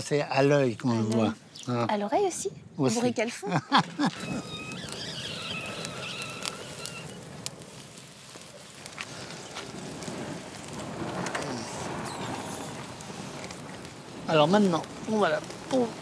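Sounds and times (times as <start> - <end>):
pine needles crackling in fire: 0.0 - 16.0.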